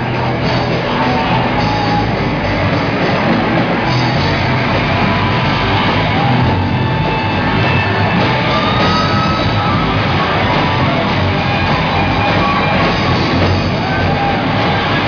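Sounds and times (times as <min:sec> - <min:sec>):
drums: 0:00.0 - 0:15.0
electric guitar: 0:00.0 - 0:15.0
metal band playing: 0:00.0 - 0:15.0.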